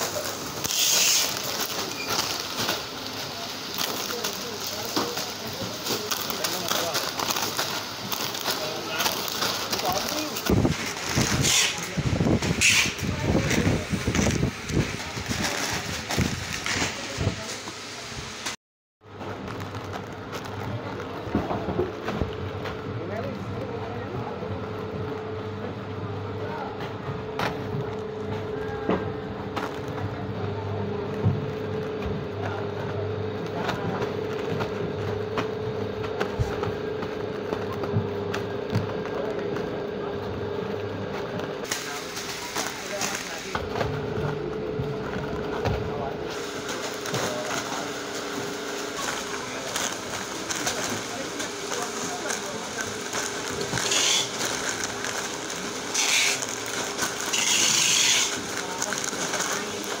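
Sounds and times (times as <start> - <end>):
chip bags crinkling and clicking: 0.0 - 17.7, 19.1 - 25.3, 26.2 - 60.0
conveyor belt humming: 0.0 - 60.0.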